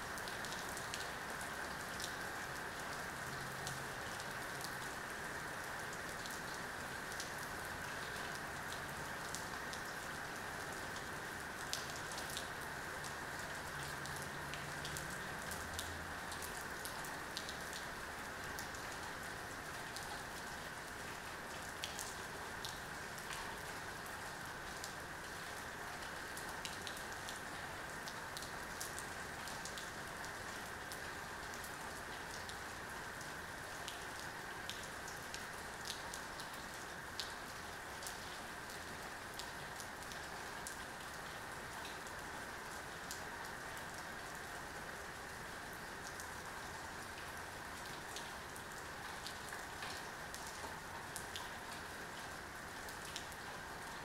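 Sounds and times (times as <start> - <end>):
heavy rain on pavement: 0.0 - 54.0.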